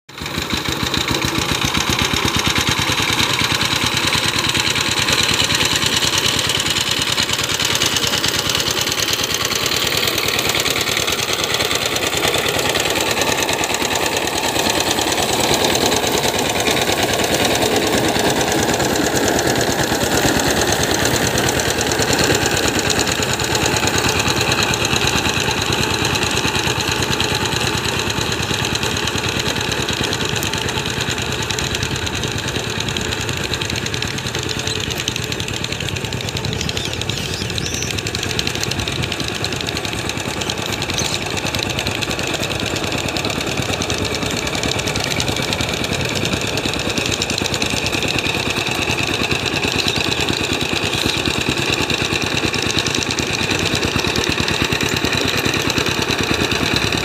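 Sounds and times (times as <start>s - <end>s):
tractor diesel engine chugging: 0.1s - 57.0s.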